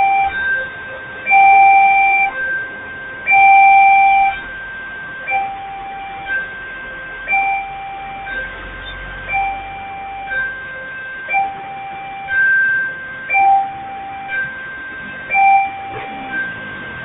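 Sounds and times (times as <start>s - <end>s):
electronic two-tone chime: 0.0s - 17.0s.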